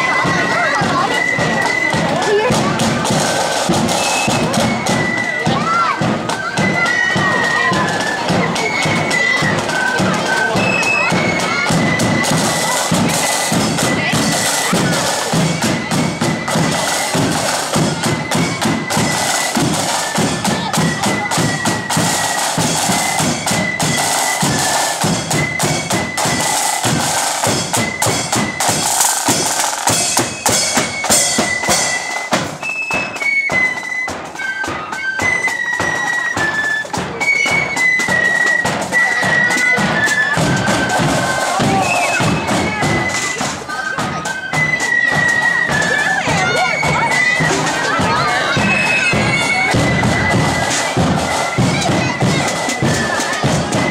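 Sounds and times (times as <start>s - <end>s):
side drum rolls: 0.0s - 32.7s, 36.6s - 53.9s
flutes playing a march: 0.0s - 53.9s.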